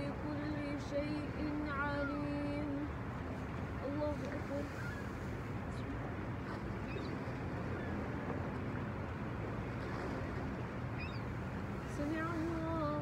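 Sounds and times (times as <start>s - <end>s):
sea surf: 0.0s - 13.0s
wind: 0.0s - 13.0s.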